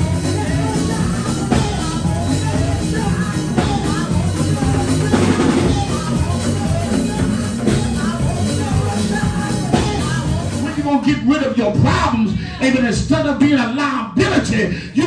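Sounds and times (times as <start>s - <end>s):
drum kit steady beat: 0.0s - 13.2s.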